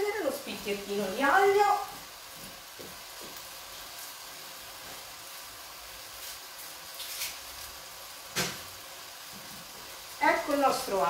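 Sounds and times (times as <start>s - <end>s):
meat frying in a pot: 0.0s - 11.0s.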